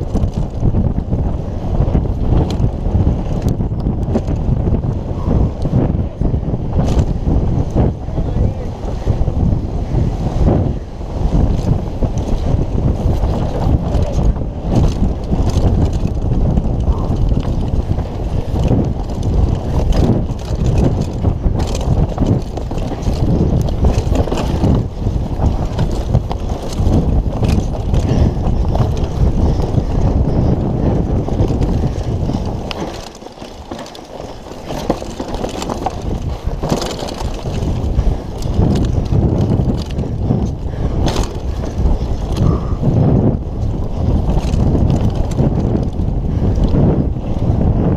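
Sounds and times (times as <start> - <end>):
bike knocks and rattles: 0.0 - 9.6, 10.6 - 47.9
bike tyres on dirt: 0.0 - 47.9
wind buffeting microphone: 0.0 - 47.9.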